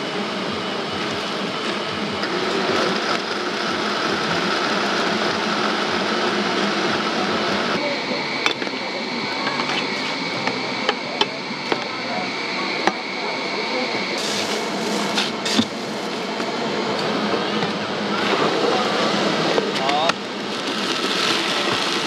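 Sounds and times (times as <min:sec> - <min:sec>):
hum of crowd and machinery: 0:00.0 - 0:22.0
thin high whine: 0:00.0 - 0:22.0.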